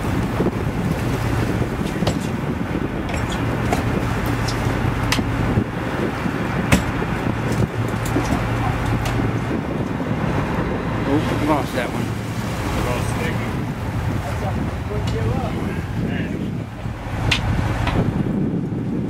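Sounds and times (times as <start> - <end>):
boat engine humming: 0.0 - 19.0
wind buffeting microphone: 0.0 - 19.0.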